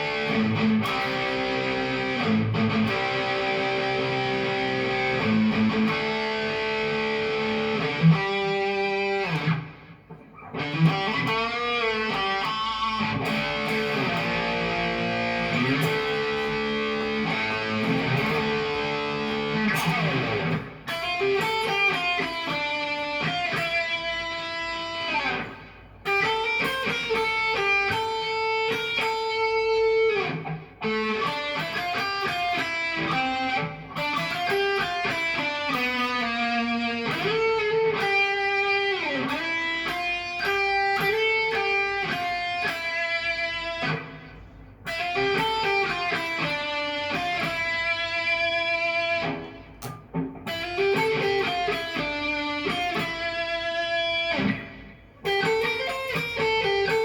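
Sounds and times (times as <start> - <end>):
guitar melody with bent notes: 0.0 - 57.0.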